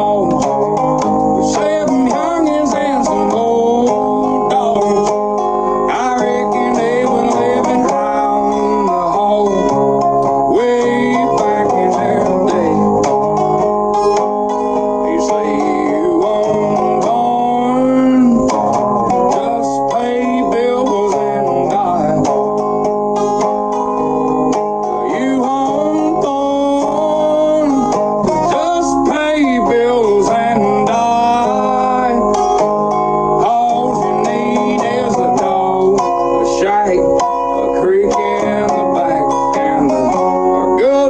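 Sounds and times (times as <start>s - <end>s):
plucked string country music: 0.0s - 41.0s.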